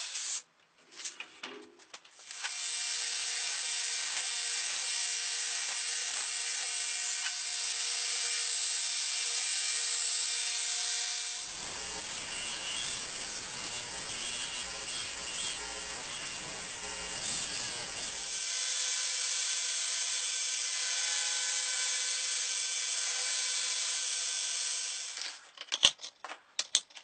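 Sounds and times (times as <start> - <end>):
belt grinder grinding steel: 2.3 - 25.4.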